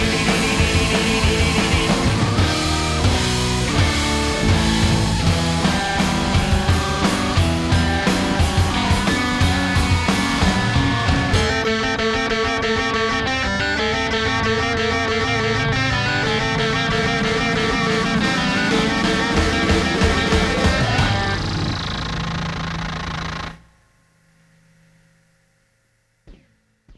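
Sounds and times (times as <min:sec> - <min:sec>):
rock music with guitar: 0:00.0 - 0:23.6.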